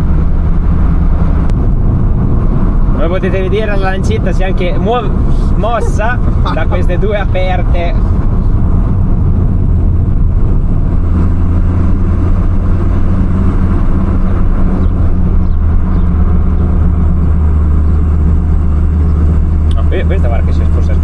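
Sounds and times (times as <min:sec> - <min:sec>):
car engine droning while driving: 0:00.0 - 0:21.0
road noise: 0:00.0 - 0:21.0.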